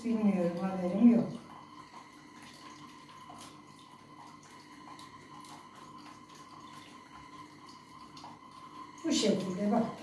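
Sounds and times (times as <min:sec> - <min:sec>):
faint steady hum: 0:00.0 - 0:10.0
juice dripping into pot: 0:00.0 - 0:10.0.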